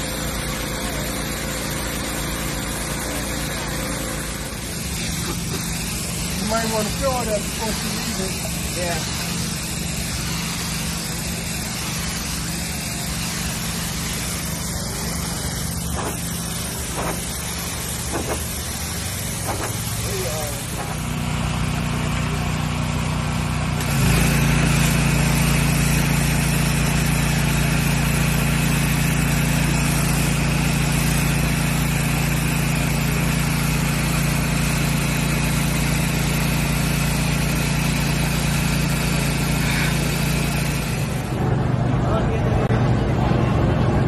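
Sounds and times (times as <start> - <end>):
pressure washer spraying stone: 0.0 - 41.4.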